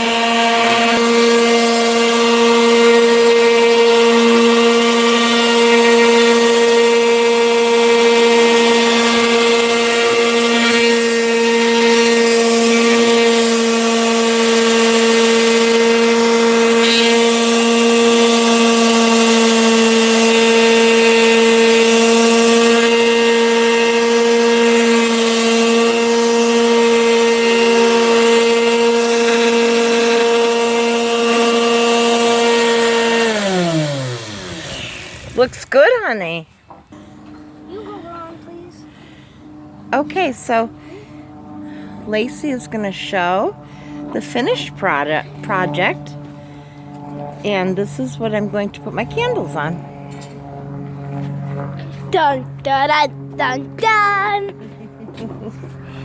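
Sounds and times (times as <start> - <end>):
electric sander sanding wood: 0.0 - 56.0.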